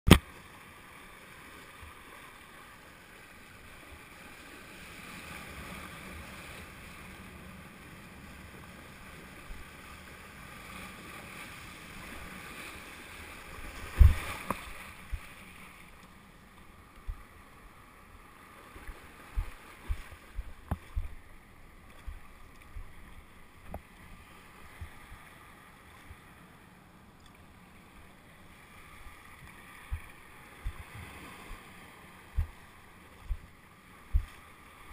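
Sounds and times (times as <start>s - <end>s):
water rushing and splashing: 0.1s - 34.9s
wind: 0.1s - 34.9s.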